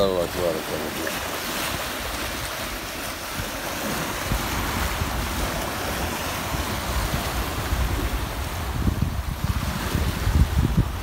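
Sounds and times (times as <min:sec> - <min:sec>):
sea waves washing on shore: 0:00.0 - 0:11.0
wind rumbling on microphone: 0:00.9 - 0:11.0.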